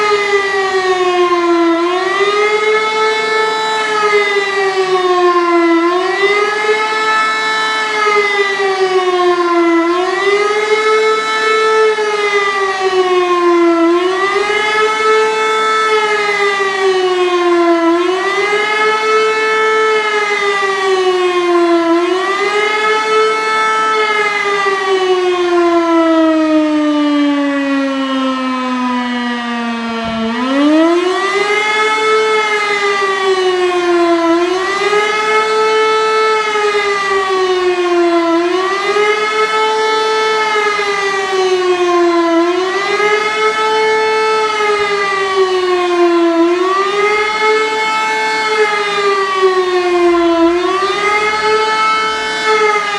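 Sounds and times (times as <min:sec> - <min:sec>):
wailing civil defence siren: 0:00.0 - 0:52.9.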